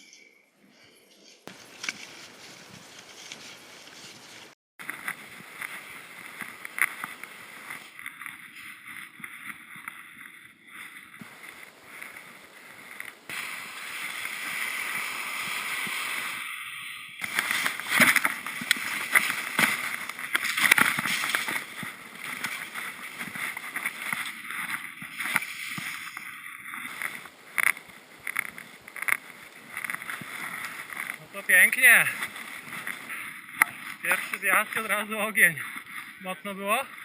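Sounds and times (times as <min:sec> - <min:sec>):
skis rushing through snow: 0:01.4 - 0:10.2, 0:10.8 - 0:37.0.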